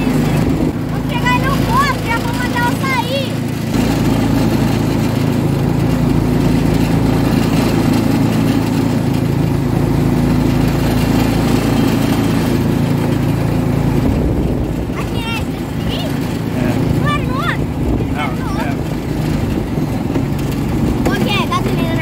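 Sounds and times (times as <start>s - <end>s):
small buggy engine running: 0.0s - 22.0s.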